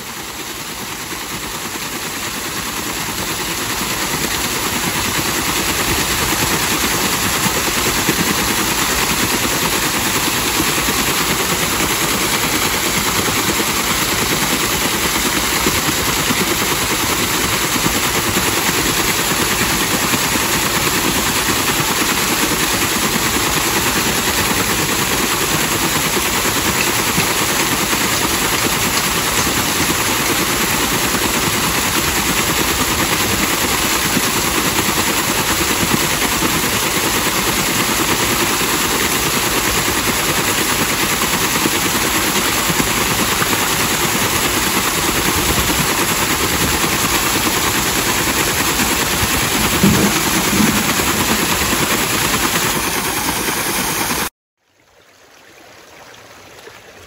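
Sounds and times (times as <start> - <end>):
water splashing off waterwheel: 0.0 - 57.0.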